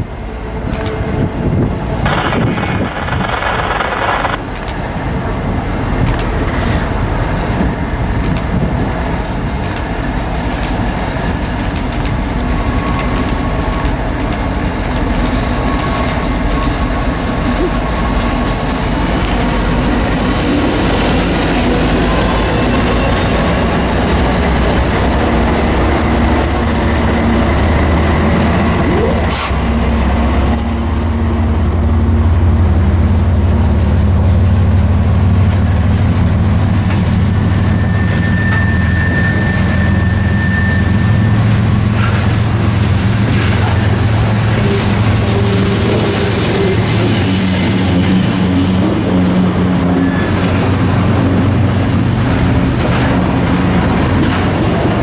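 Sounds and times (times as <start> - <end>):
diesel locomotive engines droning: 0.0 - 55.0.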